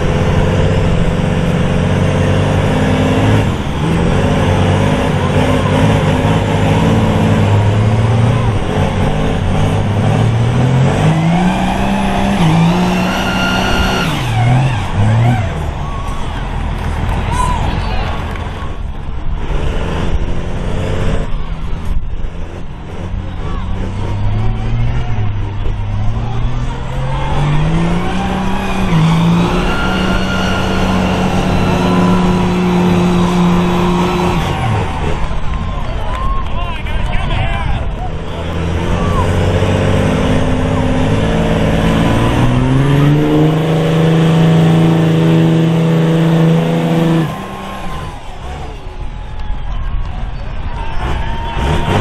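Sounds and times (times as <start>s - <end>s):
tires spinning on pavement: 0.0s - 52.0s
truck engines at full throttle: 0.0s - 52.0s.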